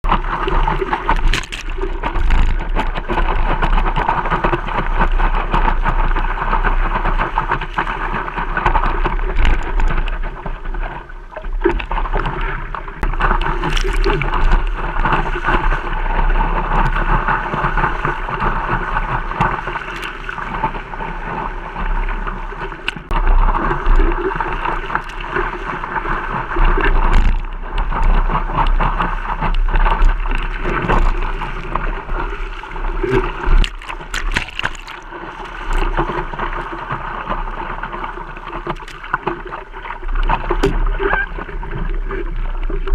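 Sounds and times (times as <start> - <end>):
water rushing and splashing: 0.0 - 42.9
wind rumbling on microphone: 0.0 - 42.9.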